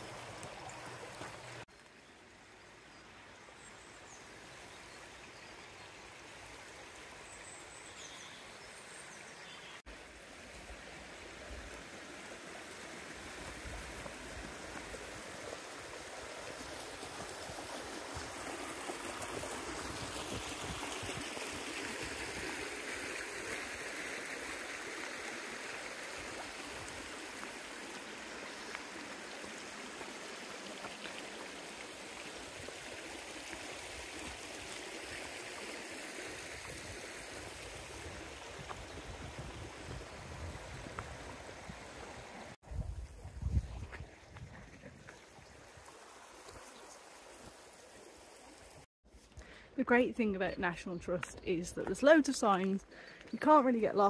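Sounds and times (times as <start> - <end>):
stream babbling over stones: 0.0 - 42.6, 44.9 - 48.9, 49.8 - 54.0.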